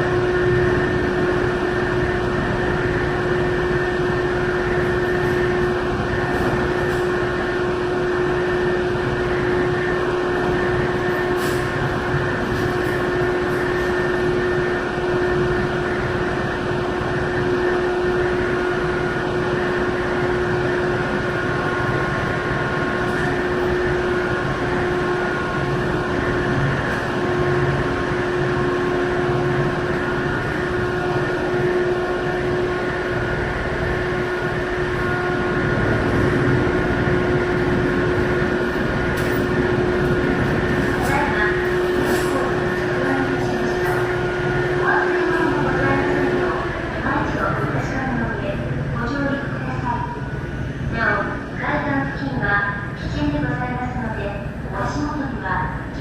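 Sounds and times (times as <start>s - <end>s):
ship engines droning: 0.0s - 56.0s.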